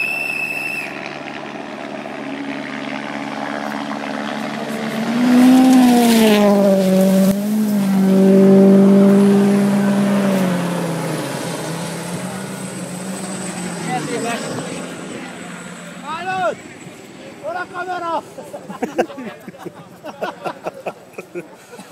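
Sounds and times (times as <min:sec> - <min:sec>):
rally car engine passing: 0:00.4 - 0:18.7.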